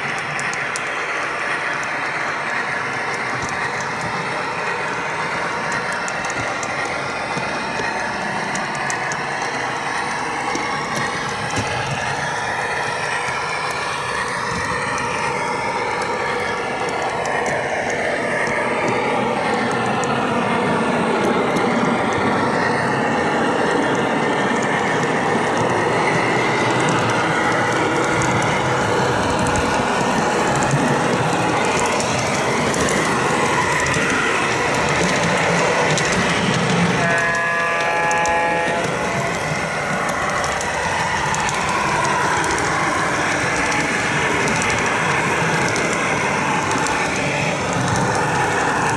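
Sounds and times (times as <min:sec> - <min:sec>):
wheels rumbling on rails: 0:00.0 - 0:48.9.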